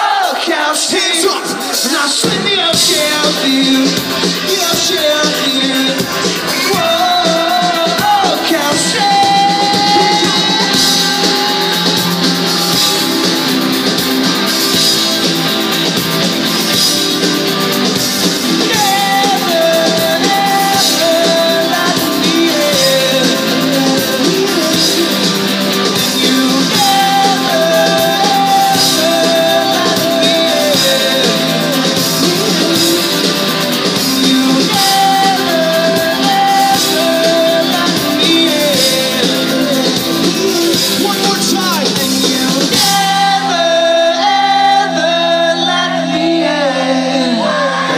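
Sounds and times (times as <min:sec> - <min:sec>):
drums: 0:00.0 - 0:47.9
keyboard: 0:00.0 - 0:47.9
person singing lead vocal: 0:00.0 - 0:47.9
electric guitars: 0:01.5 - 0:47.9.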